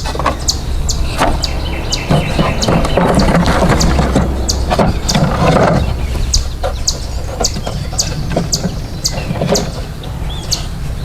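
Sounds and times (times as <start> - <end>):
rustling and knocking: 0.0 - 10.2
songbird chirping: 0.0 - 11.0
steady low rumble: 0.0 - 11.0.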